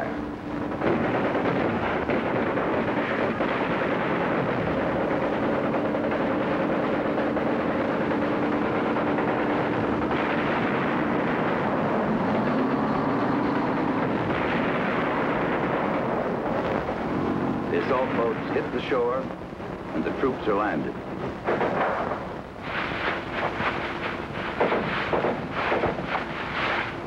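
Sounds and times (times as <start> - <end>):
rapid machine-gun fire: 0.7 - 17.0, 21.3 - 27.0.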